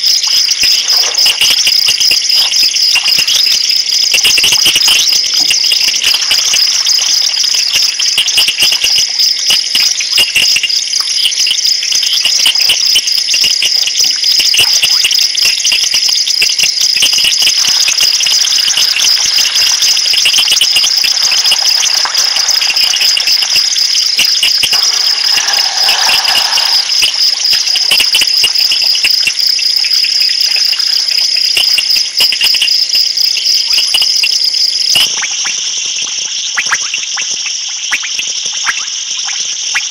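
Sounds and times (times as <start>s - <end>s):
night insects trilling: 0.0s - 39.7s.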